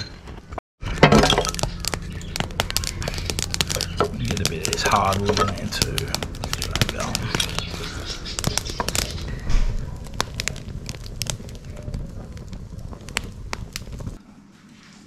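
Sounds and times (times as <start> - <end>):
wood fire crackling: 0.8 - 14.2.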